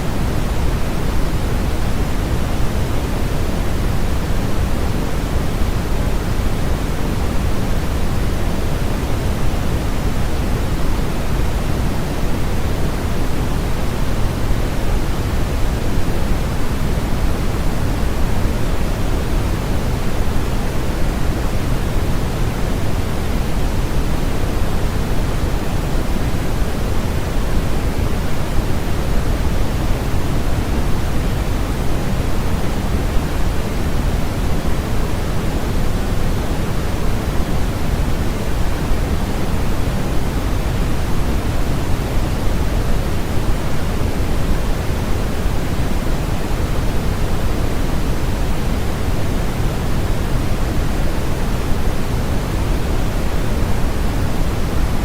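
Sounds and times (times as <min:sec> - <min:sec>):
white noise rush: 0:00.0 - 0:55.0.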